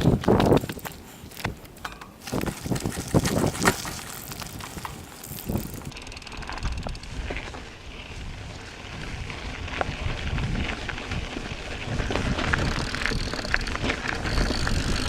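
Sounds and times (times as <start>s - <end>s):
bike knocking and rattling on dirt: 0.0s - 15.0s
wind on microphone: 0.0s - 15.0s.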